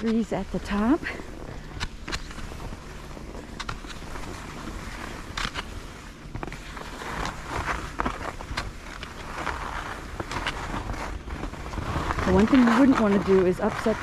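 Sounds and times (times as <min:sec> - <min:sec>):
skis scraping over snow: 0:00.0 - 0:14.0.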